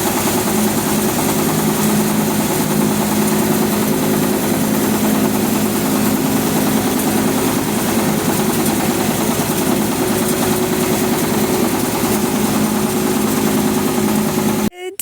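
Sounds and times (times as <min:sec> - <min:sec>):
engine running steadily: 0:00.0 - 0:14.7.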